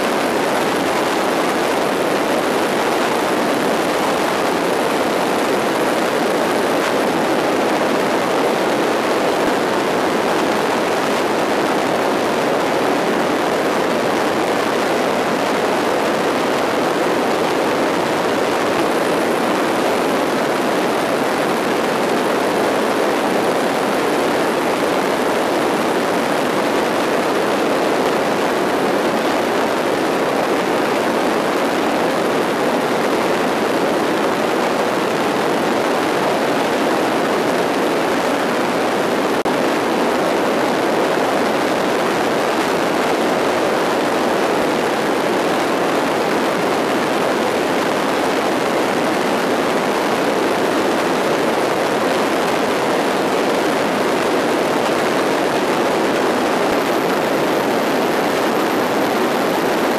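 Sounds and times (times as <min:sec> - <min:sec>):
airstream rushing: 0:00.0 - 0:59.9.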